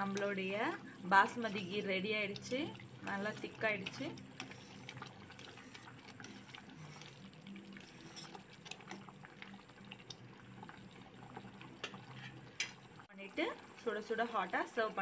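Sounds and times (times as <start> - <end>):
bubbles popping in simmering pot: 0.0 - 15.0
low steady hum: 0.0 - 15.0.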